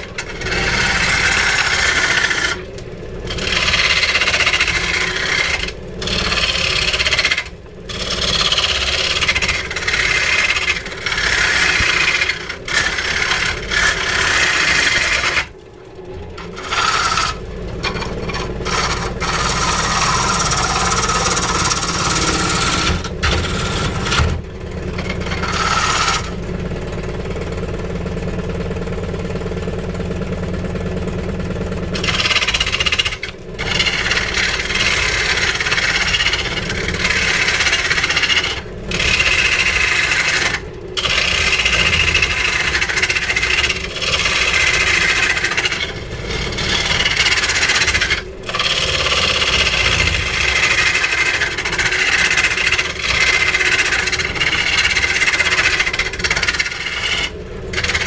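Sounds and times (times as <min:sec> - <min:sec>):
power tool rasping into wood: 0:00.0 - 0:26.6, 0:32.0 - 0:58.0.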